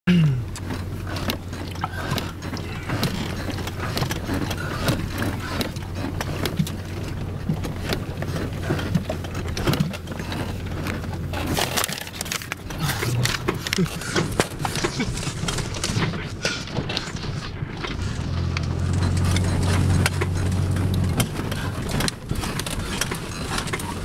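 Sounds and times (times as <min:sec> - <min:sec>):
vehicle engine droning: 0:00.1 - 0:24.0
cab rattling and knocking: 0:00.4 - 0:24.0.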